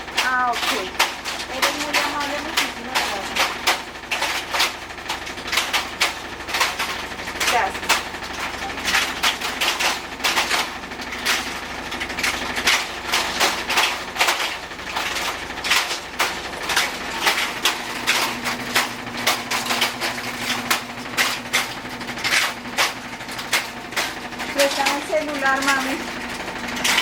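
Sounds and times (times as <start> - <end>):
washing machine knocking: 0.0 - 27.0.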